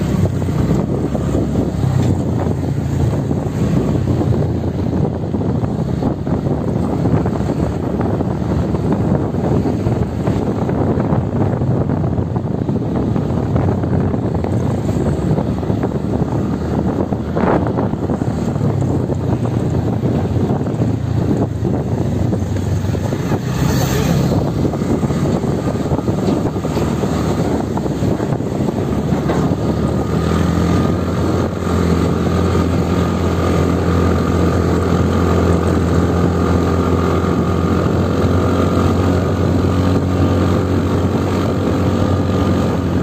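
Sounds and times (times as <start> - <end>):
motorcycle engine hum: 0.0 - 43.0
wind rushing over microphone: 0.0 - 43.0.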